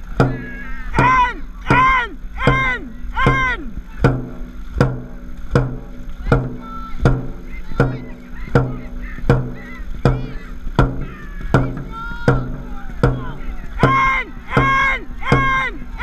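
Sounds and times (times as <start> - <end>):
drum beating steady rhythm: 0.0 - 16.0
paddles splashing in water: 0.0 - 16.0
high shouts: 0.3 - 4.1, 6.2 - 16.0.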